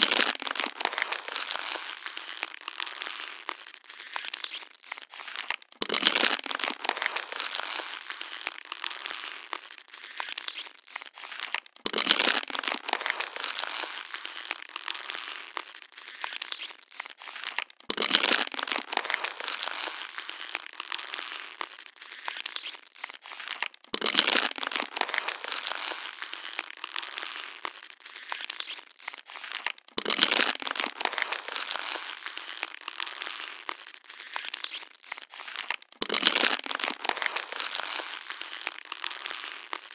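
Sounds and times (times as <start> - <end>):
plastic bottle crinkling: 0.0 - 39.9
plastic bottle loud crunch: 0.0 - 39.9.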